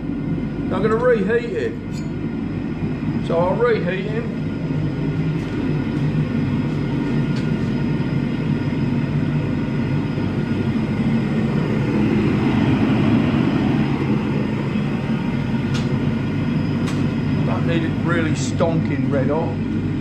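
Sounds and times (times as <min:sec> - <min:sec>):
gas forge burner rushing: 0:00.0 - 0:20.0.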